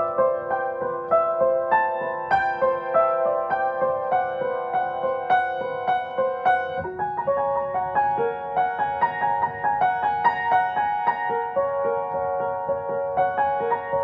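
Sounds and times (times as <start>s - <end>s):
solo piano improvisation: 0.0s - 14.0s.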